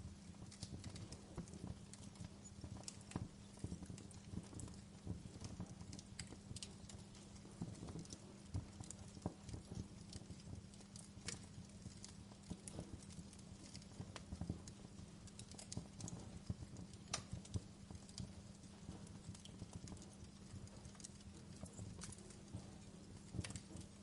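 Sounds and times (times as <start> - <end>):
wood fire crackling in fireplace: 0.0 - 24.0.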